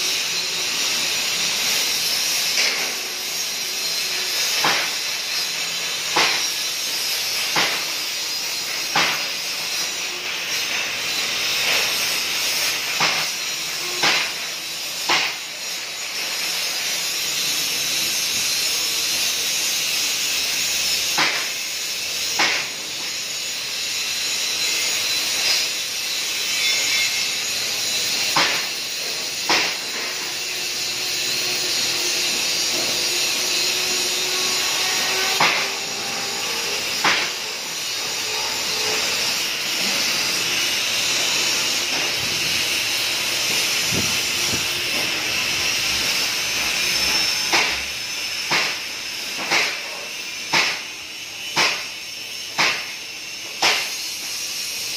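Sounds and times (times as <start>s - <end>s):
welding arc hissing: 0.0s - 54.9s.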